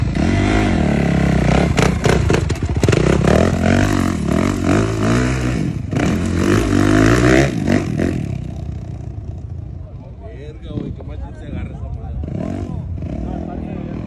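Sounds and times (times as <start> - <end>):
dirt bike engine revving: 0.0 - 9.5, 12.2 - 14.0.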